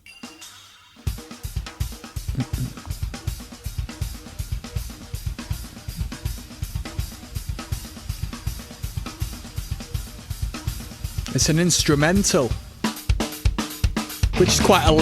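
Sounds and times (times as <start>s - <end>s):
busy drumming with cymbals: 0.2s - 15.0s
instrumental metal music: 1.1s - 15.0s.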